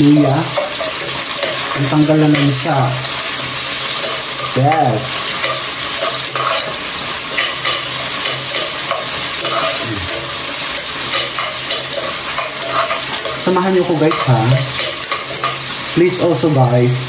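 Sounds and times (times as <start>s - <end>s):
onion frying in hot oil: 0.0s - 17.0s
ladle scraping a pan: 0.5s - 15.8s.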